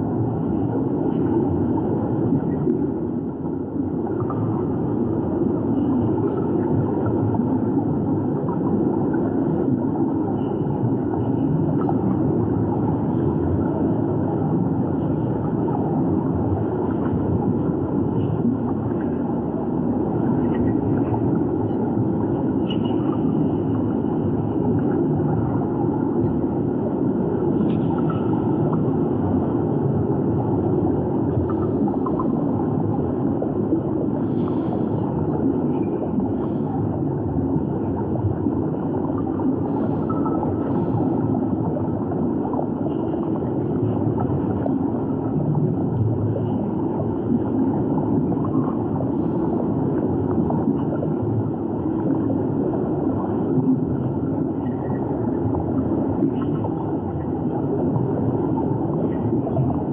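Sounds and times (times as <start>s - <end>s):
underwater rumble of water: 0.0s - 59.9s.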